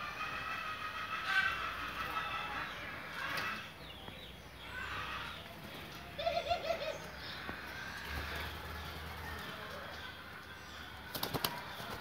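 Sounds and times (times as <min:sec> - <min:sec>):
doves cooing: 0:00.0 - 0:03.8, 0:04.6 - 0:12.0.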